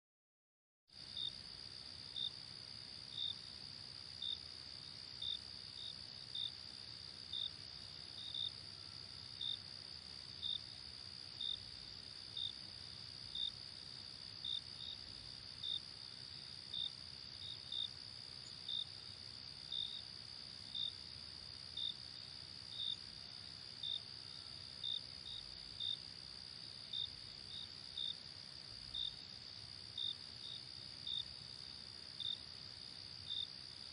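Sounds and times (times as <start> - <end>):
cricket chirping: 1.0 - 33.9.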